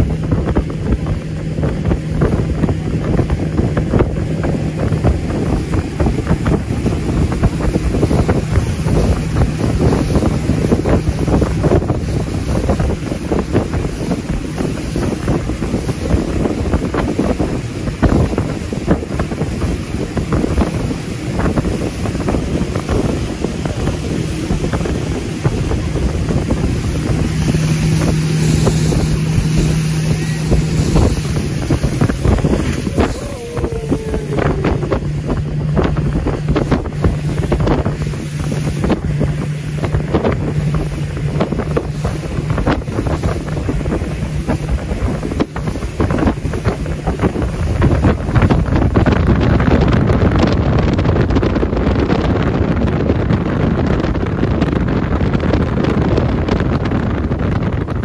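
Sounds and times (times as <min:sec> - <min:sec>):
boat engine humming: 0:00.0 - 0:58.0
water spray and splashing: 0:00.0 - 0:58.0
wind buffeting microphone: 0:00.0 - 0:58.0.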